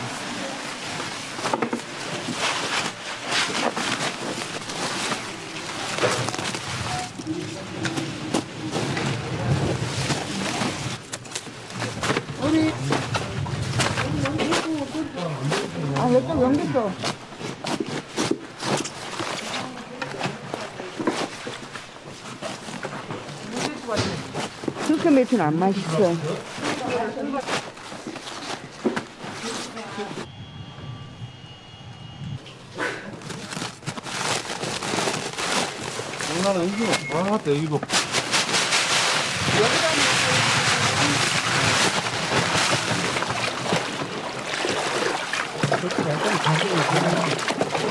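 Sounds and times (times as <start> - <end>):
cabbage leaves rustling and crackling: 0.0 - 30.2, 32.8 - 47.9.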